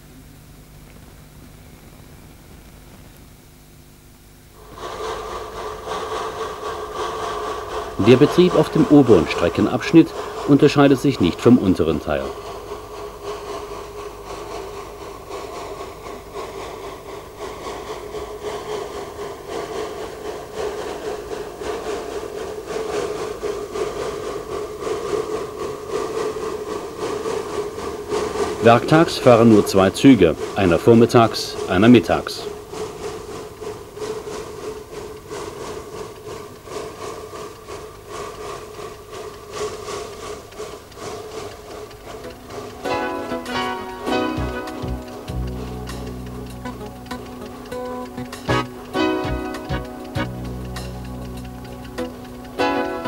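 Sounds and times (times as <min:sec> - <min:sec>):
steam hissing: 0:00.0 - 0:53.0
steam locomotive chuffing: 0:00.0 - 0:53.0.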